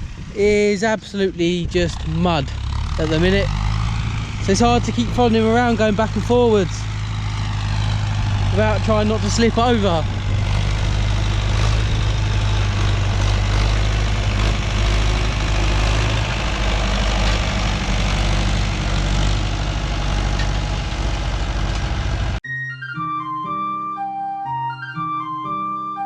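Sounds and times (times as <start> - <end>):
tractor engine running: 0.0 - 22.4.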